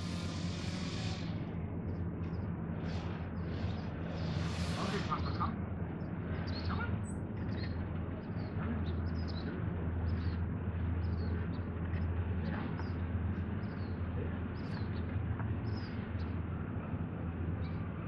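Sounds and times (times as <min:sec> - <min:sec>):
small birds chirping: 0:00.0 - 0:16.5
steady low hum: 0:00.0 - 0:18.0.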